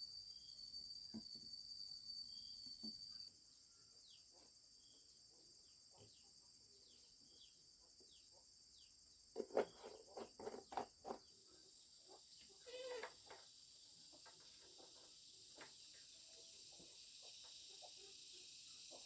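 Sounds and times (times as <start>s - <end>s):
high insect drone: 0.0s - 8.2s, 11.5s - 19.0s.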